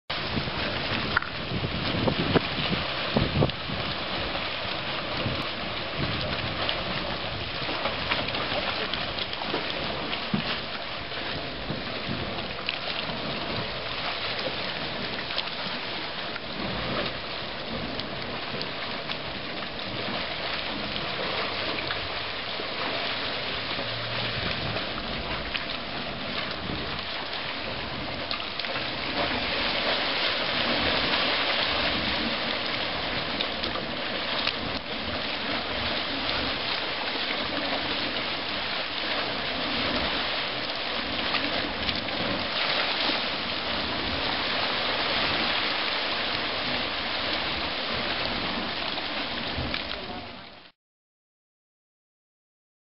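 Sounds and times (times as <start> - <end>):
hot water churning and splashing: 0.1 - 50.7.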